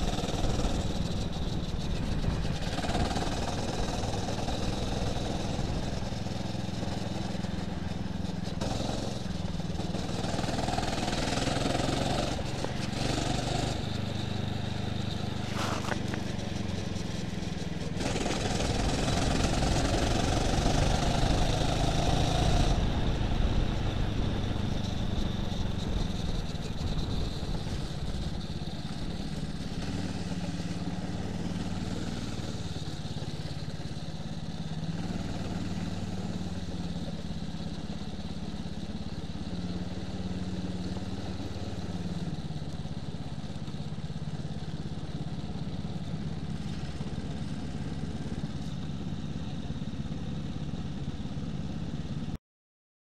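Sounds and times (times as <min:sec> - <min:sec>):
go-kart engine: 0:00.0 - 0:52.4.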